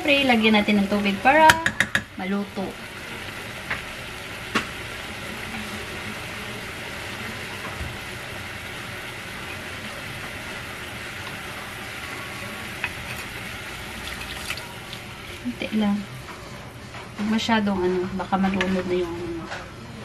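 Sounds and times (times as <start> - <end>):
chicken sizzling in a frying pan: 0.0 - 16.2.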